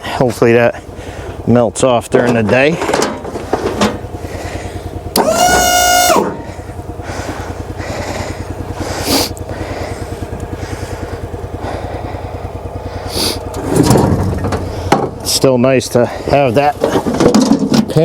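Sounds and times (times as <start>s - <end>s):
small gasoline engine idling: 0.0s - 18.0s.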